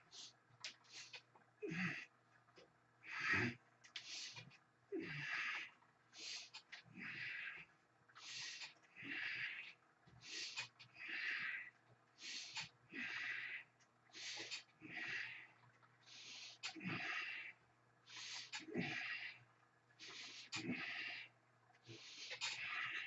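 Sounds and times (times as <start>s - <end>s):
person breathing hard: 3.0s - 19.4s, 20.0s - 23.0s.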